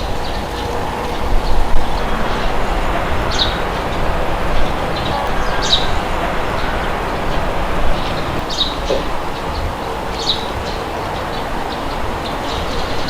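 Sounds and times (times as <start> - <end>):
bird chirping: 0.0 - 13.0
wind blowing: 0.0 - 13.0.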